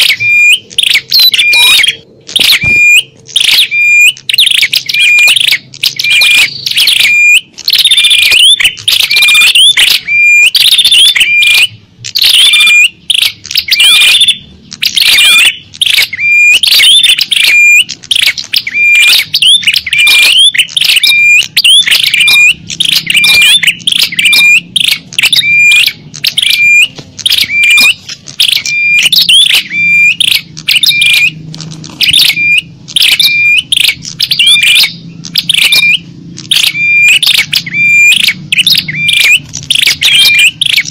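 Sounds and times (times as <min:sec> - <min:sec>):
high bird chirping call: 0:00.0 - 0:40.9.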